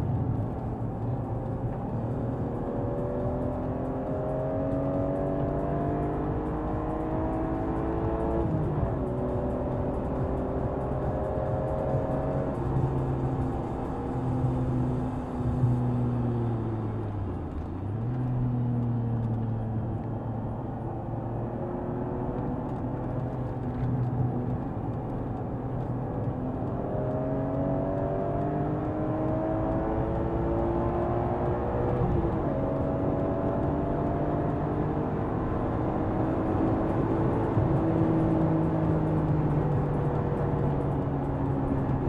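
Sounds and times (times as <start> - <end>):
car engine revving at speed: 0.0 - 42.0.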